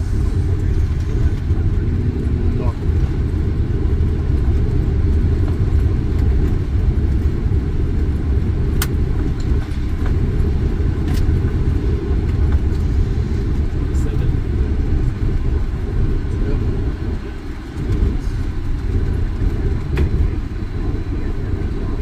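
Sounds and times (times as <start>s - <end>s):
low rumble of jet on runway: 0.0s - 22.0s.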